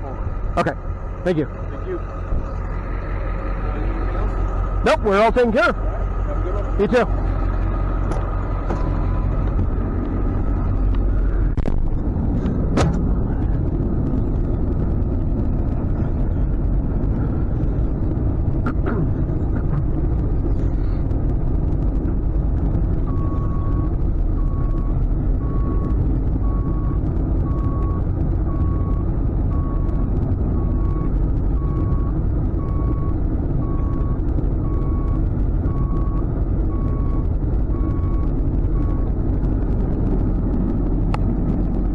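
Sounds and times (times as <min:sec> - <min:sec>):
tow truck engine running: 0:00.0 - 0:41.9.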